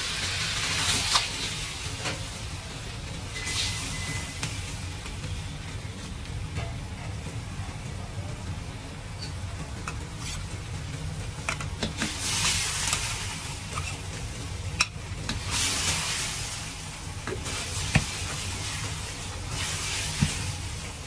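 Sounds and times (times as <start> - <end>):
sauce sizzling in a wok: 0.0 - 6.5, 10.0 - 21.0
gas burner rumbling: 0.0 - 21.0.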